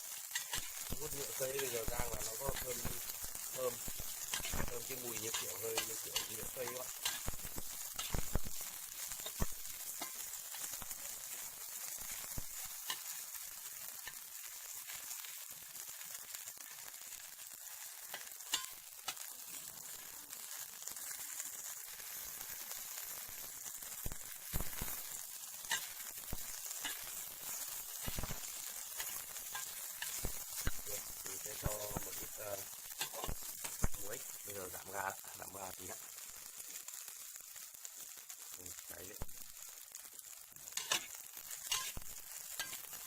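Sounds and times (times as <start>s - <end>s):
insects sizzling in fat: 0.0s - 43.0s.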